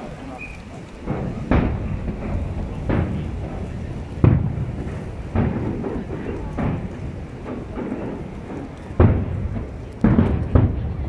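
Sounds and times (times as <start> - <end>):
rolling rumble: 0.0 - 11.0
distant firework booms: 1.0 - 11.0.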